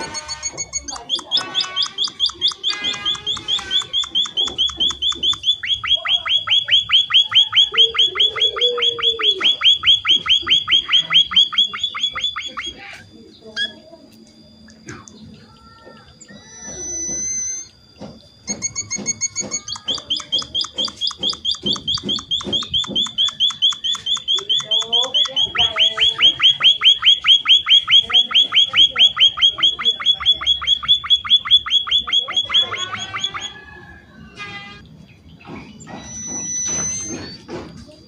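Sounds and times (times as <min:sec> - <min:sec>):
bird calling rapid high notes: 0:00.0 - 0:13.9, 0:15.0 - 0:17.7, 0:18.5 - 0:34.6, 0:35.8 - 0:37.5.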